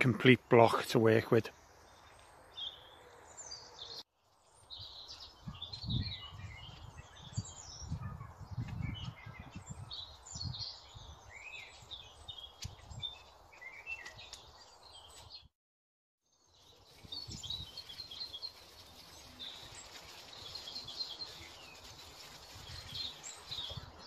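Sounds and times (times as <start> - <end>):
small birds singing: 0.0 - 15.5, 16.2 - 24.0.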